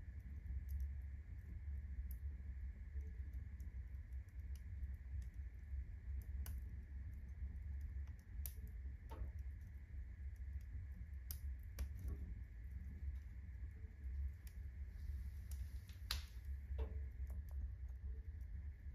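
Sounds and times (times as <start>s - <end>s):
fire crackling and popping: 0.0s - 18.9s
low fire rumble: 0.0s - 18.9s.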